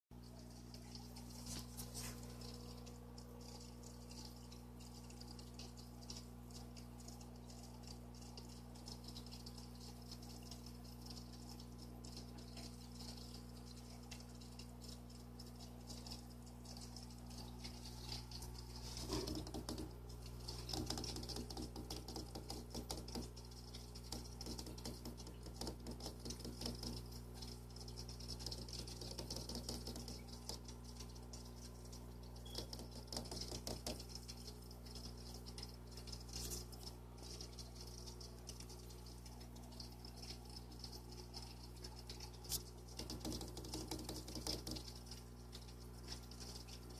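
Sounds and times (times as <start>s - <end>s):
aquarium equipment hum: 0.1s - 46.9s
water ticks and clicks: 0.1s - 46.9s.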